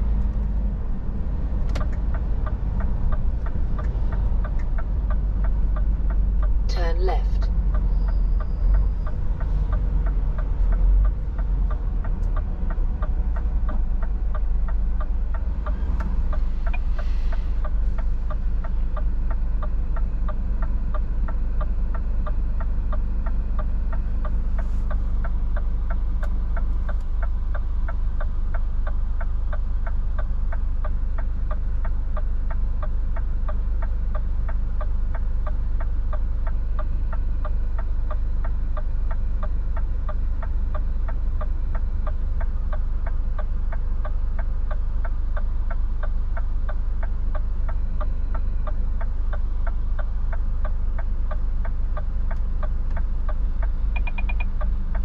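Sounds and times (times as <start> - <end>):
diesel engine idling: 0.0 - 55.0
turn indicator ticking: 0.0 - 55.0.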